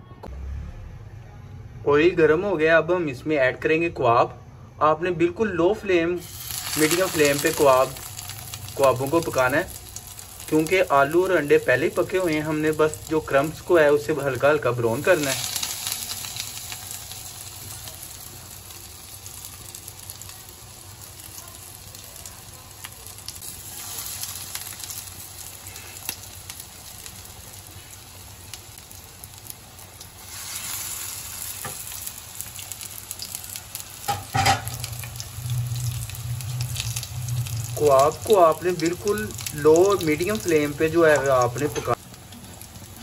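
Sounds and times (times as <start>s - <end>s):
food sizzling in hot oil: 6.2s - 43.0s.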